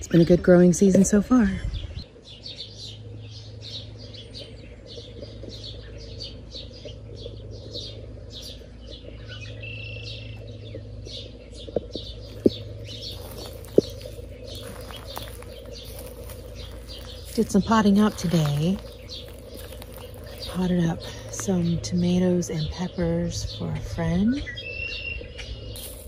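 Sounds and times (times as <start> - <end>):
low steady hum: 0.0 - 26.0
songbirds chirping: 0.0 - 26.0.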